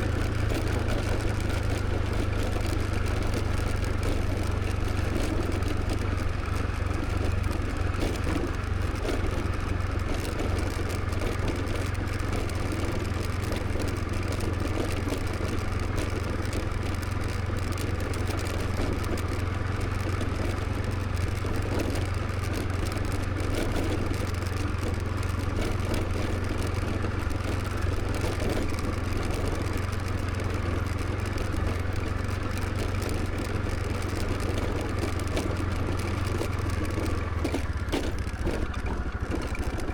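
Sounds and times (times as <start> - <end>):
motor scooter engine running: 0.0 - 39.9
road noise: 0.0 - 39.9.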